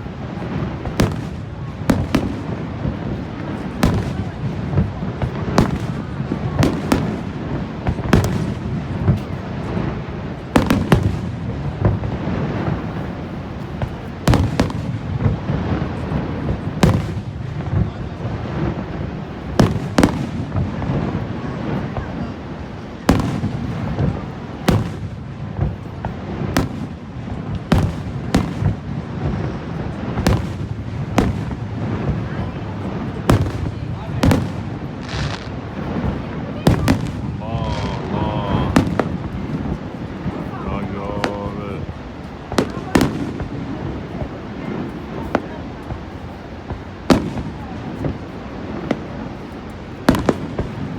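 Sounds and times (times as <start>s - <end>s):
fireworks bursting: 0.0s - 50.9s
steady background noise: 0.0s - 50.9s.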